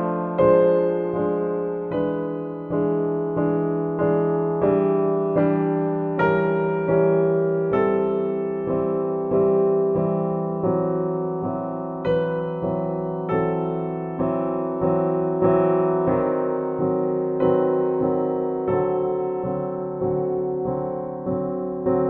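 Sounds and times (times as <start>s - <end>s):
slow solo piano music: 0.0s - 22.0s.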